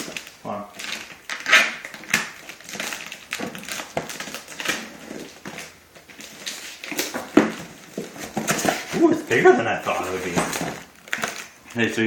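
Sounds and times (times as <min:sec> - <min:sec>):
packaging rustling and crinkling: 0:00.0 - 0:11.9.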